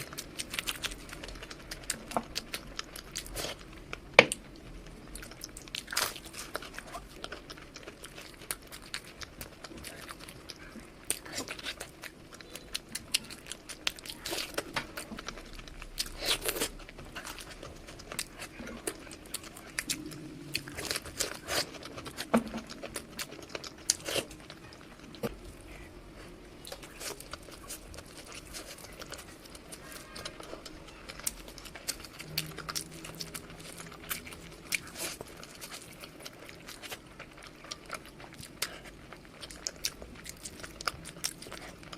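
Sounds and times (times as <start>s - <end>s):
person chewing crisp food: 0.0s - 41.9s.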